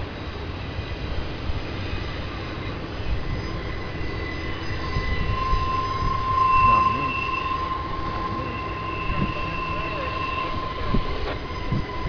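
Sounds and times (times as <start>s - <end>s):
train wheels rumbling on rail: 0.0s - 12.0s
high wheel squeal: 1.6s - 12.0s.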